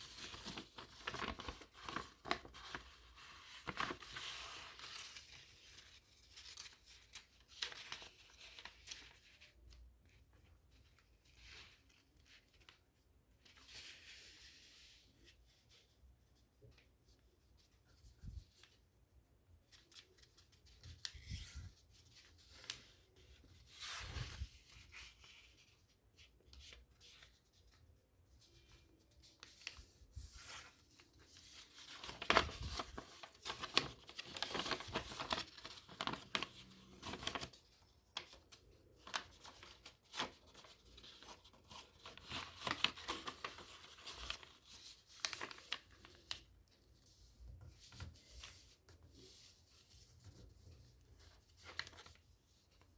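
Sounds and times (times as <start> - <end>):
paper being folded: 0.0 - 12.8, 19.6 - 52.7.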